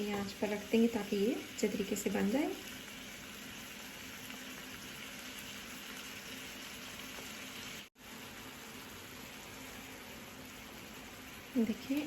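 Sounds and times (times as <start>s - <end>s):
soft bubbling sizzle in a pan: 0.0s - 12.0s.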